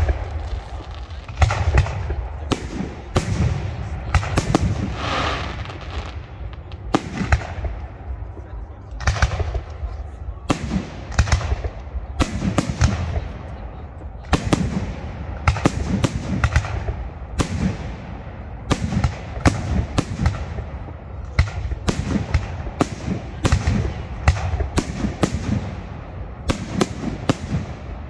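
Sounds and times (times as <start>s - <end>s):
fireworks bursting with echoes: 0.0s - 28.0s.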